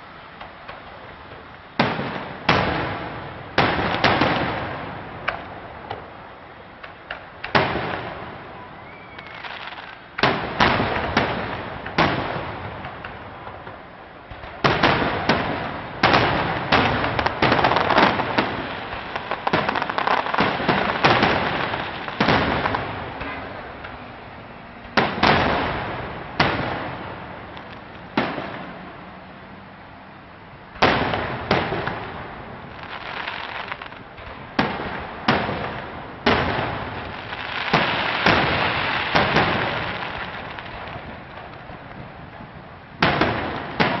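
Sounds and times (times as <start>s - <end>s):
fireworks bursting with sharp bangs: 0.0s - 29.3s, 30.6s - 44.0s.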